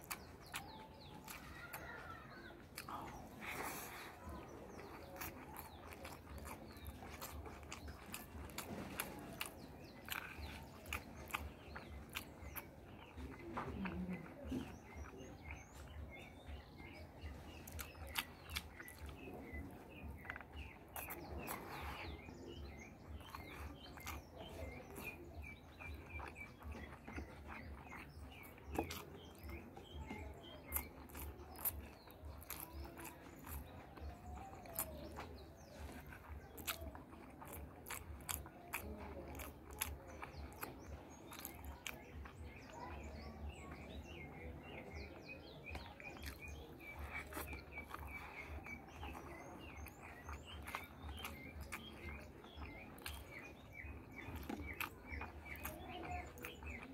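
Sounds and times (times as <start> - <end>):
birds chirping: 0.0 - 56.9
person chewing with mouth clicks: 0.0 - 56.9.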